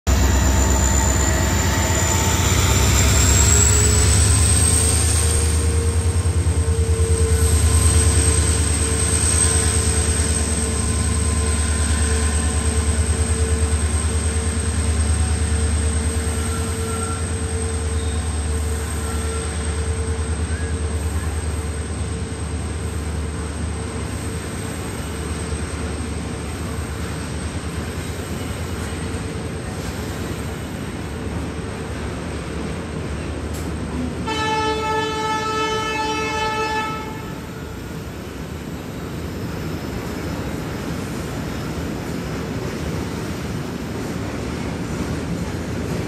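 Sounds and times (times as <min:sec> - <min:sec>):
train wheels rolling on rails: 0:00.1 - 0:35.4, 0:37.2 - 0:46.0.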